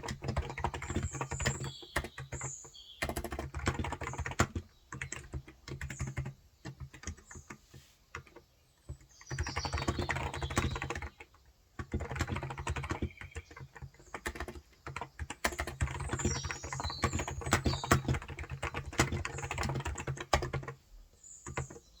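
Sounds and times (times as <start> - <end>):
keyboard typing: 0.0 - 20.8, 21.4 - 21.8.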